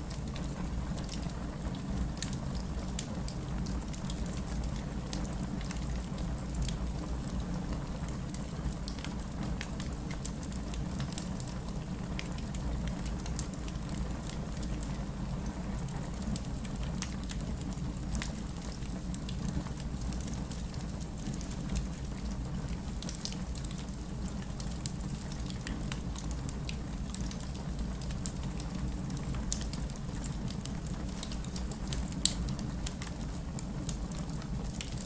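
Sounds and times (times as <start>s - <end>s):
wood fire burning and crackling: 0.0s - 35.0s.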